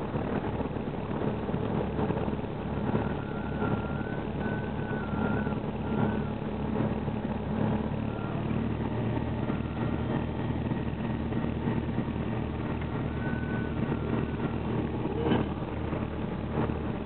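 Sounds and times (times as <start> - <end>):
aircraft piston engine droning: 0.0 - 17.0.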